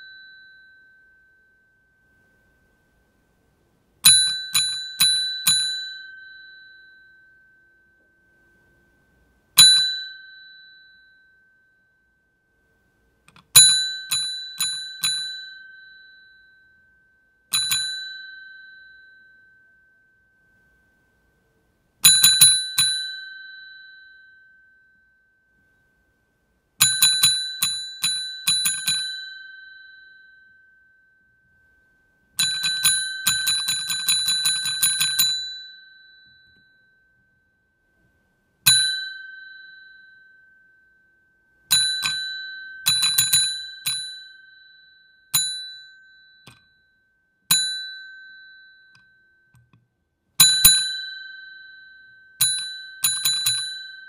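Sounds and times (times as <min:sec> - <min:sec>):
desk call bell dinging: 0:00.0 - 0:02.6, 0:04.0 - 0:08.5, 0:09.6 - 0:11.8, 0:13.3 - 0:20.7, 0:22.0 - 0:25.1, 0:26.8 - 0:31.6, 0:32.4 - 0:37.4, 0:38.7 - 0:49.8, 0:50.4 - 0:54.0.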